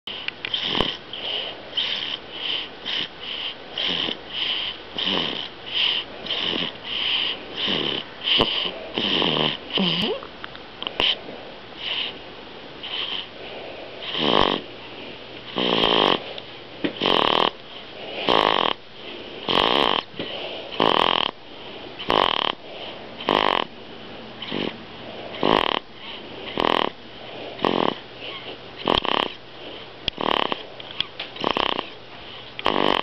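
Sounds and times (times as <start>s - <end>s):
baby snoring: 0.2s - 10.2s, 10.9s - 11.2s, 11.8s - 12.2s, 12.8s - 14.7s, 15.5s - 16.3s, 17.0s - 18.8s, 19.4s - 21.4s, 22.0s - 23.7s, 24.4s - 30.7s, 31.4s - 33.0s.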